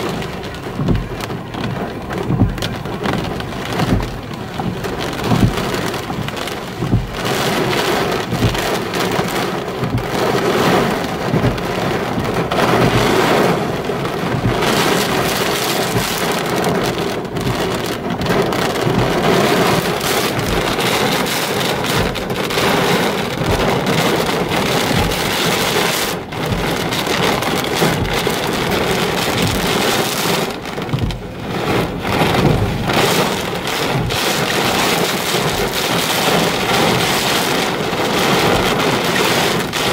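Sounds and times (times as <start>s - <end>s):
heavy rain pelting a car: 0.0s - 39.9s
raindrops hitting glass: 0.0s - 39.9s.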